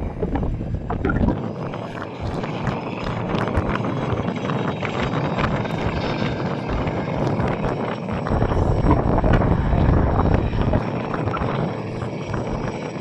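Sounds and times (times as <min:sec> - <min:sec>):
deep rumble: 0:00.0 - 0:13.0
helicopter rotor and turbine noise: 0:00.0 - 0:13.0.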